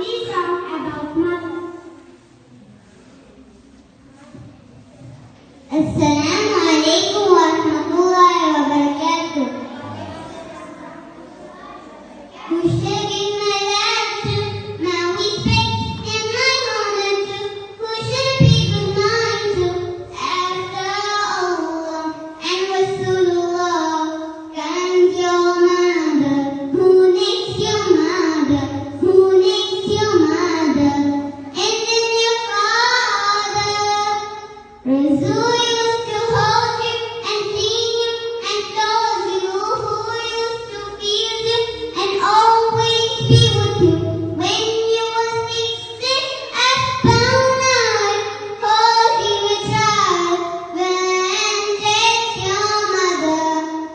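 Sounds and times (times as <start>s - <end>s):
child singing: 5.7s - 11.8s, 12.4s - 53.9s.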